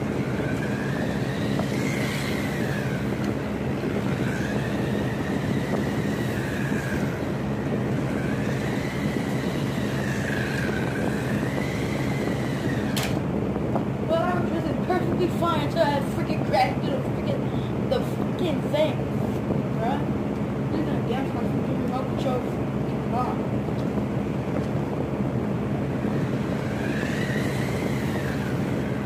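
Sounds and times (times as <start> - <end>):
electric motor whining: 0.0 - 18.2, 23.7 - 29.0
steady low hum: 0.0 - 29.0.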